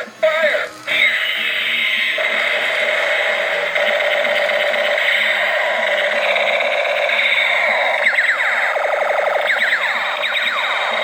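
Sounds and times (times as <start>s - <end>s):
buzzing electronic warble: 0.9s - 11.0s
falling-pitch toy laser zaps: 2.0s - 11.0s.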